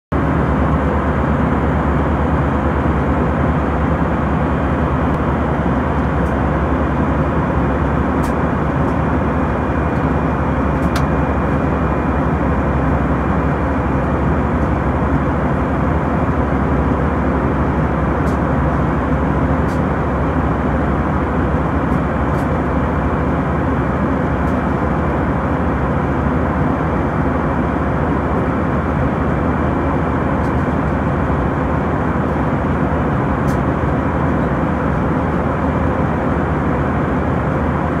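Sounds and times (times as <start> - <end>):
roar of jet engines and airflow: 0.1 - 38.0.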